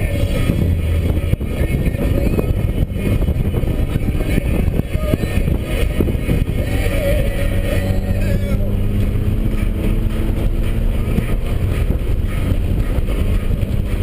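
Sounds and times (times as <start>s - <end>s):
car engine running: 0.0s - 14.0s
road and wind noise: 0.0s - 14.0s.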